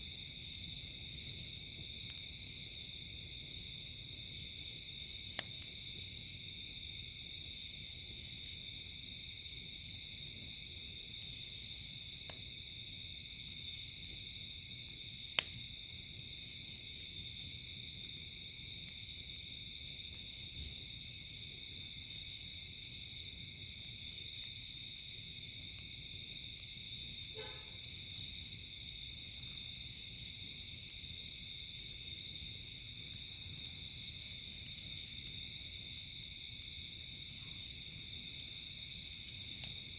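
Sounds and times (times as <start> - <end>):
campfire popping: 0.0 - 39.9
crickets chirping: 0.0 - 39.9.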